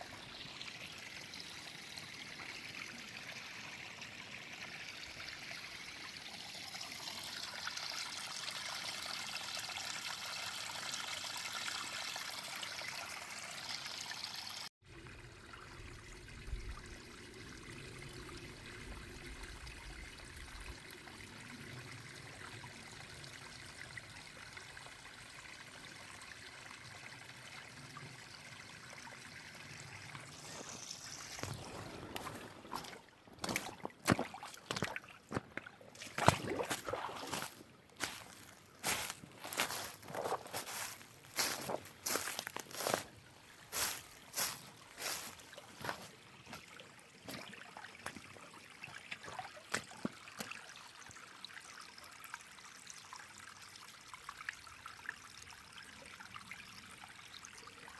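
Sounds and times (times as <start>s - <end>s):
water trickling: 0.0s - 57.9s.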